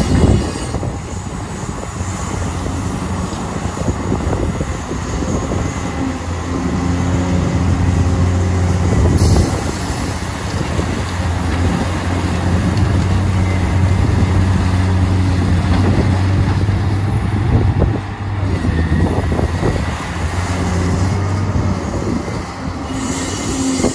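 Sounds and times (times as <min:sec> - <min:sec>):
excavator diesel engine humming: 0:00.0 - 0:23.9.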